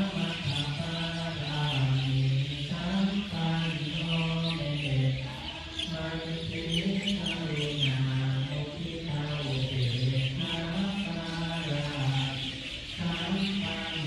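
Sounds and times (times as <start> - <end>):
birds chirping: 0.0 - 14.0
low voices chanting: 0.0 - 14.0.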